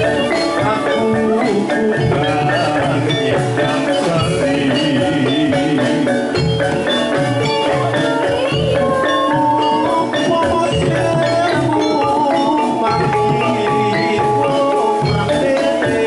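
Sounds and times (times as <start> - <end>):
hand drums beating rhythm: 0.0 - 16.0
keyed metallophones melody: 0.0 - 16.0.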